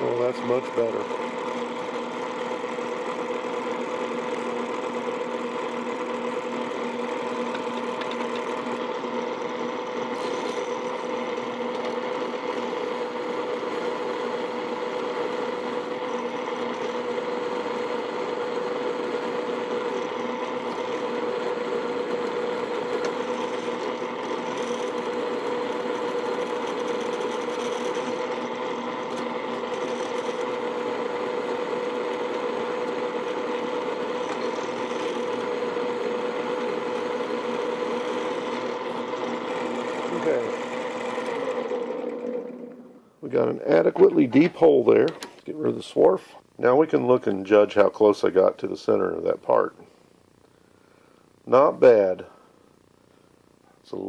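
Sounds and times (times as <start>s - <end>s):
drill press humming: 0.0s - 48.1s.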